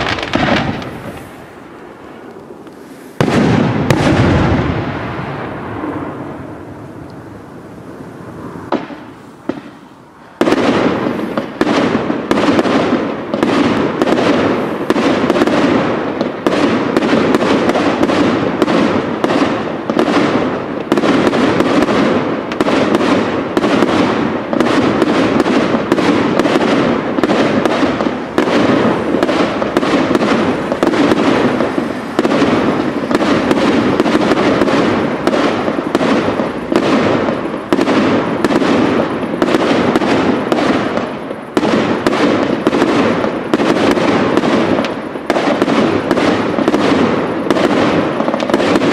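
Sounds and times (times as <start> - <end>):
fireworks bangs and bursts: 0.0 - 48.9.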